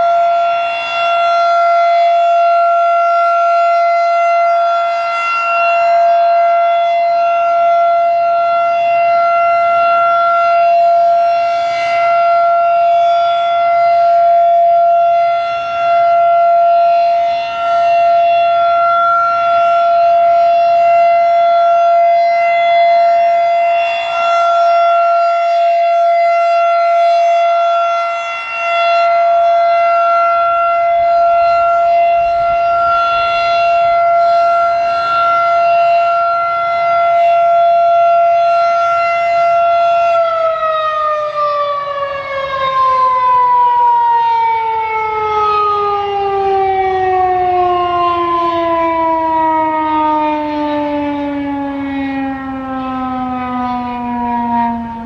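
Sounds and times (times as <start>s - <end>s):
electromechanical siren wailing: 0.0s - 55.0s.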